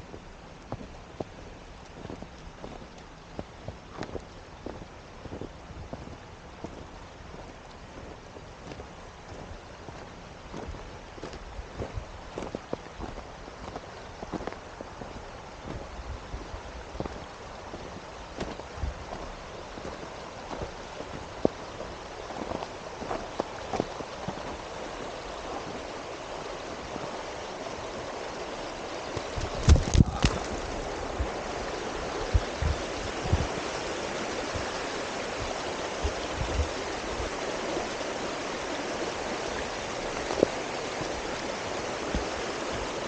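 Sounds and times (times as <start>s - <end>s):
stream rushing: 0.0s - 43.0s.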